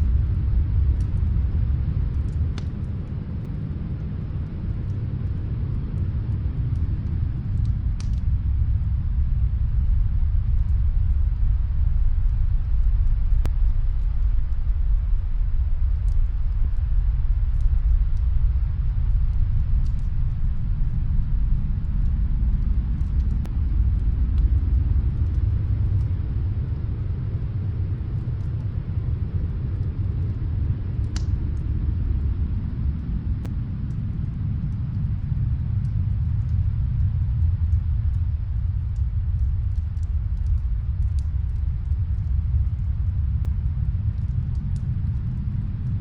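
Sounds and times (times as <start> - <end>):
snowstorm wind rumble: 0.0 - 46.0
fireplace crackles: 0.1 - 46.0.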